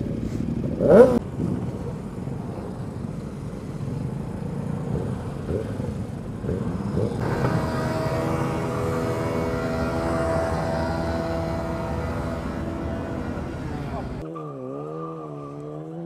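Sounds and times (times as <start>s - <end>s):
engine humming at steady revs: 0.0s - 16.0s
motorcycle engine rumbling: 0.0s - 16.0s.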